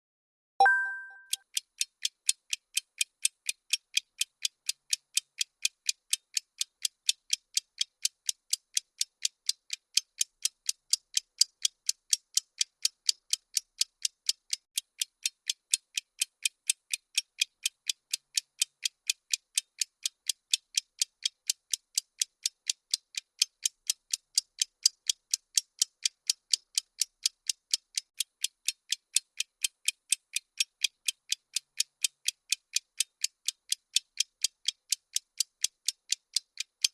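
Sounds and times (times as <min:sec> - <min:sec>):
rapid clock ticks: 0:01.3 - 0:36.9.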